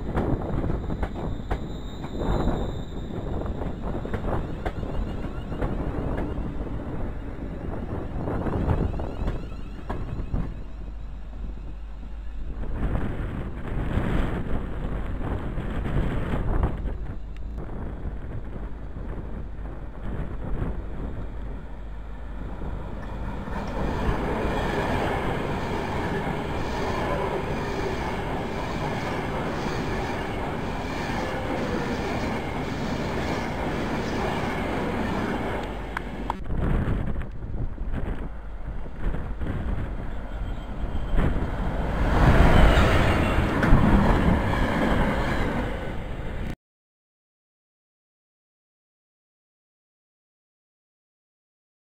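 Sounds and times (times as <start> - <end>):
electric train passing: 0.0 - 36.8, 37.6 - 46.6.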